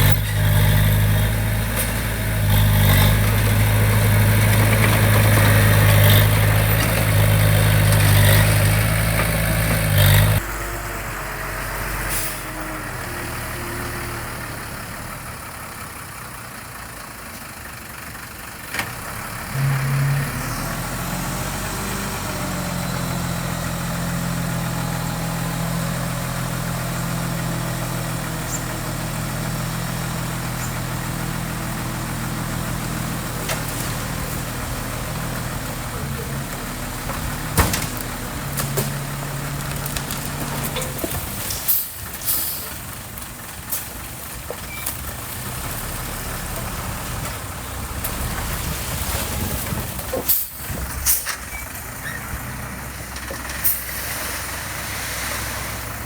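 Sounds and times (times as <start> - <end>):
diesel engine of heavy machinery: 0.0 - 56.0.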